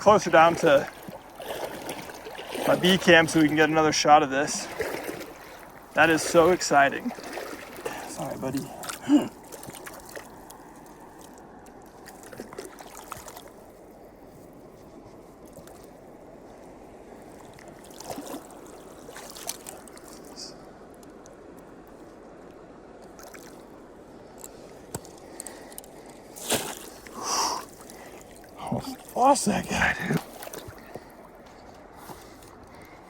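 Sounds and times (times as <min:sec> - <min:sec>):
stream water running: 0:00.0 - 0:33.0.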